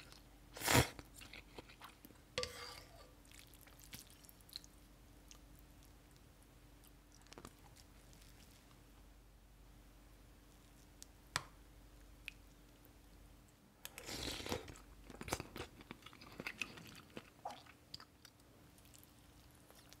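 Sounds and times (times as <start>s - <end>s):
soft wet squishing: 0.9s - 9.1s, 10.4s - 14.0s, 14.6s - 20.0s.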